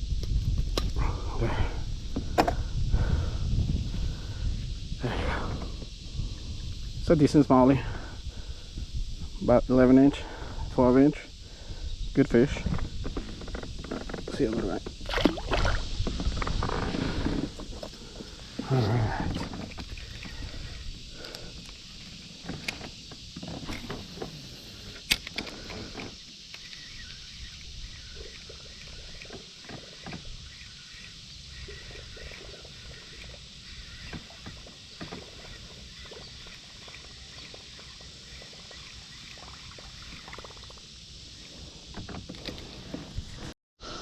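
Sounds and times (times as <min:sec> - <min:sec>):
steady outdoor hiss: 0:00.0 - 0:44.0.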